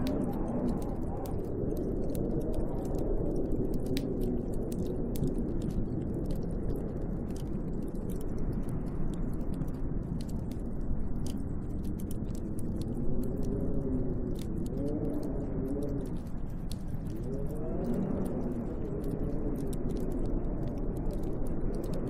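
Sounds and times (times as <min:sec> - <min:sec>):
snowstorm wind rushing: 0:00.0 - 0:10.4, 0:11.0 - 0:22.0
wavering wind howl: 0:00.0 - 0:22.0.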